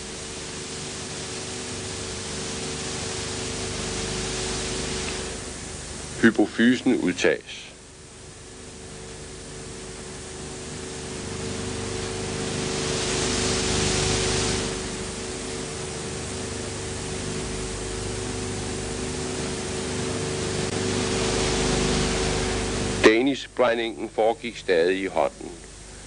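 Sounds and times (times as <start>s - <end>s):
film soundtrack hiss: 0.0s - 26.0s
low even hum: 0.0s - 26.0s.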